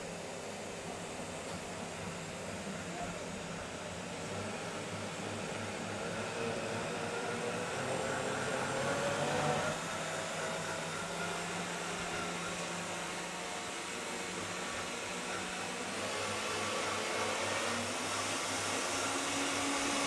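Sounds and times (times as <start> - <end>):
blender motor running: 3.8 - 20.0.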